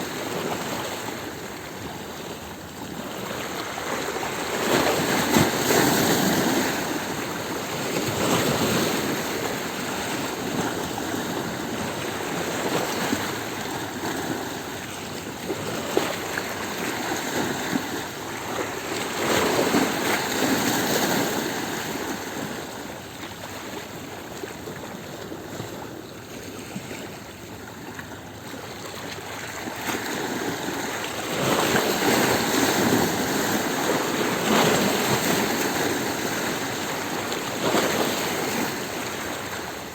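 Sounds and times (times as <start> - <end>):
waves surging onto stony shore: 0.0 - 39.9.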